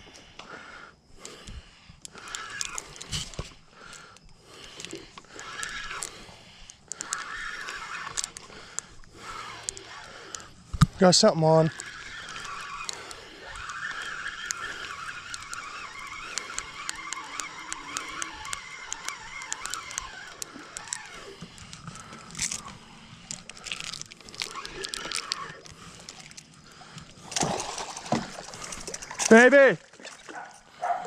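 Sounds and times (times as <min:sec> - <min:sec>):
fishing reel ticking: 0:00.1 - 0:29.7
fish splashing: 0:02.2 - 0:30.8.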